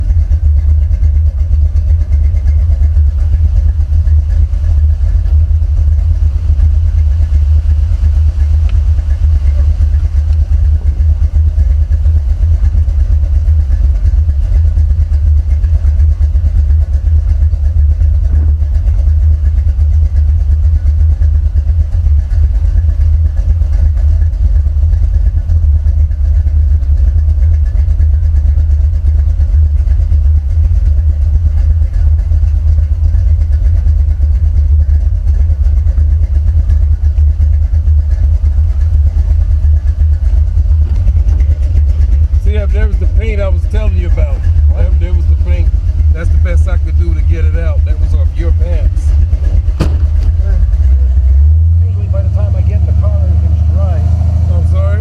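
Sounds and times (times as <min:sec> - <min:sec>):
engine deep rumble: 0:00.0 - 0:55.0.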